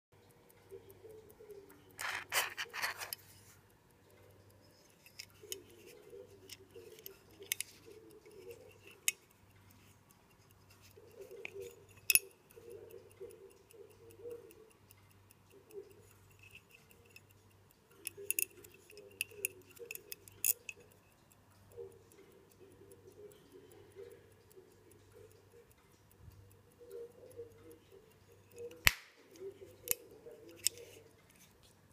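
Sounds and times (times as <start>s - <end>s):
pocket watch ticking: 0.1s - 31.9s.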